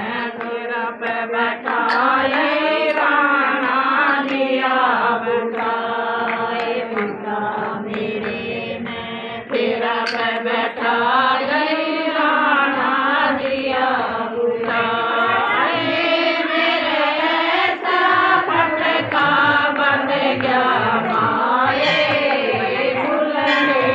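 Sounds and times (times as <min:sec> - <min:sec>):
women singing devotional chant: 0:00.0 - 0:23.9.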